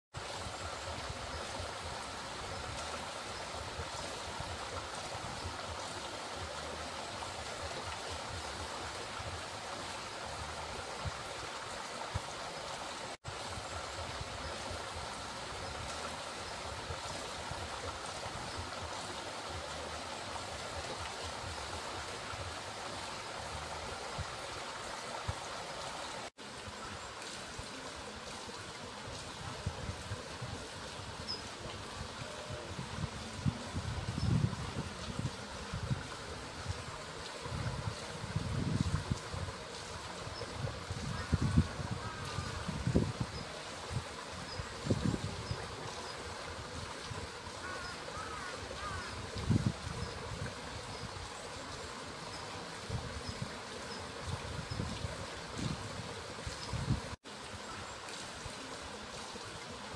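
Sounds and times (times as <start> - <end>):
water rushing at waterwheel: 0.0 - 59.9.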